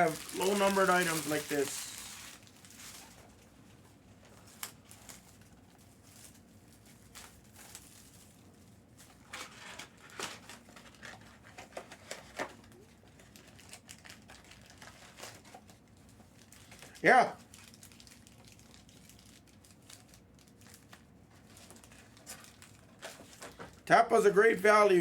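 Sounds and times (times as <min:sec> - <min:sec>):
crinkling rustles: 0:00.0 - 0:23.9.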